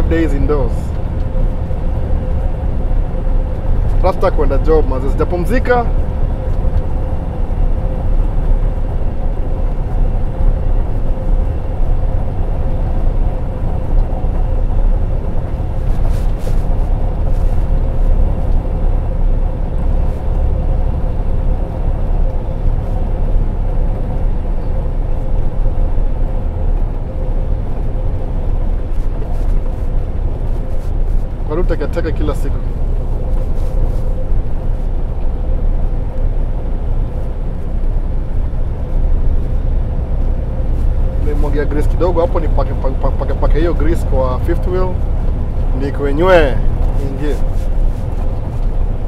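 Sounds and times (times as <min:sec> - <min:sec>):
semi truck engine rumbling: 0:00.0 - 0:49.0.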